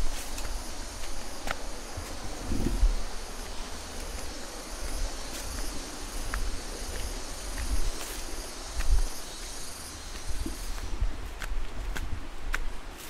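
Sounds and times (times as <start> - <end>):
footsteps on path: 0.0 - 13.0
insects chirring: 0.0 - 13.0.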